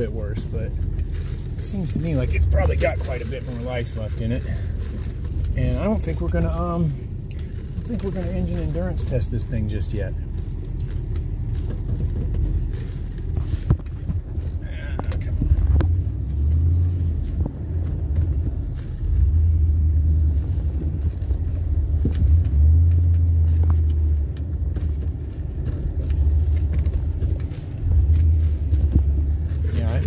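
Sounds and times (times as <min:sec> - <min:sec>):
truck engine droning in cab: 0:00.0 - 0:30.0.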